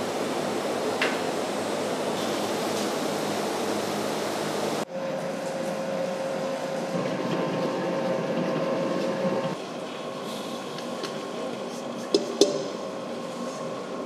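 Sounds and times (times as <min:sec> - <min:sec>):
mixers humming: 0:00.0 - 0:11.7.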